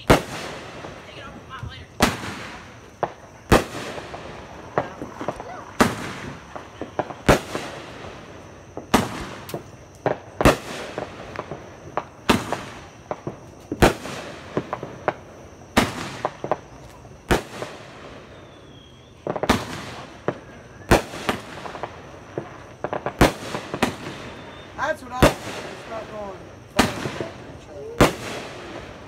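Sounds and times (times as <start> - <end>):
firework bangs: 0.0 - 29.0
firework pops and crackles: 0.0 - 29.0.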